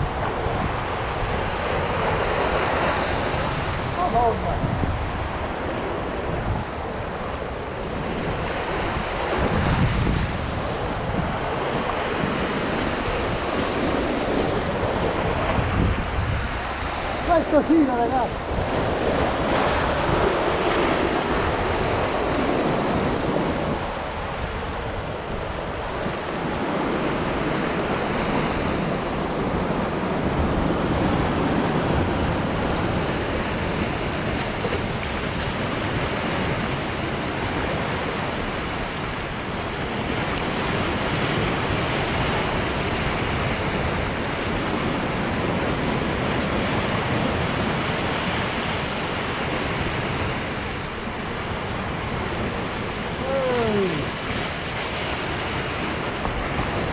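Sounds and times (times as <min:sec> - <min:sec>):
surf breaking over rocks: 0:00.0 - 0:56.9.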